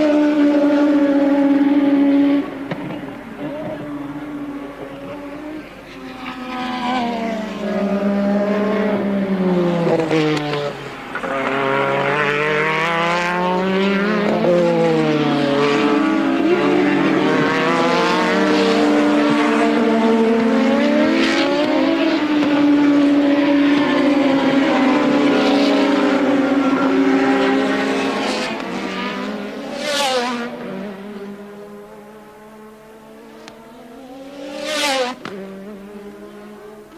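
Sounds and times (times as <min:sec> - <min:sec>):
racing car engines: 0:00.0 - 0:36.9.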